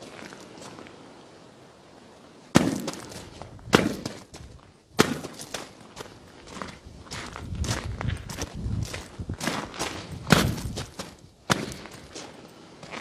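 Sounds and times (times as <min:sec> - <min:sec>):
boots crunching on gravel: 0:02.5 - 0:13.0.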